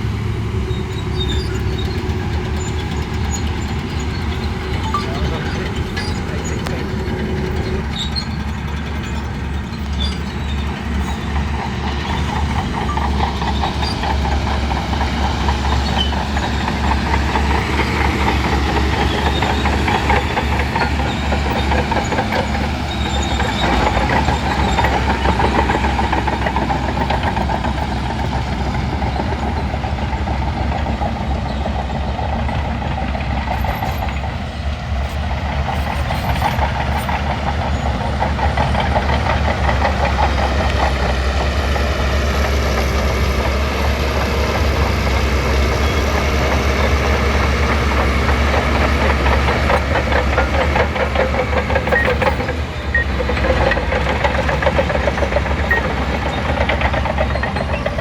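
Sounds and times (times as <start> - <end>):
bulldozer diesel engine running: 0.0 - 58.0
steel tracks clanking: 0.0 - 58.0.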